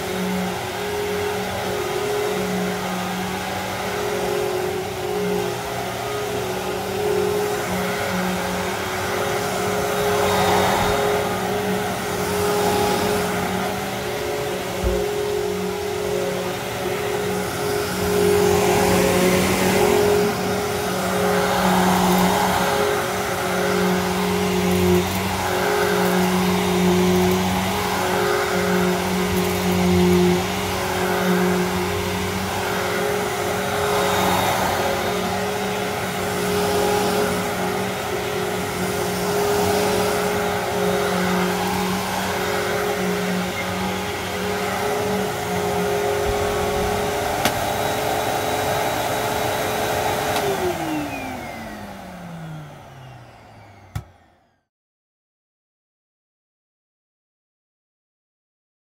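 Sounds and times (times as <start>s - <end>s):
vacuum cleaner on carpet: 0.0s - 54.7s
vacuum motor spinning down: 0.0s - 54.7s.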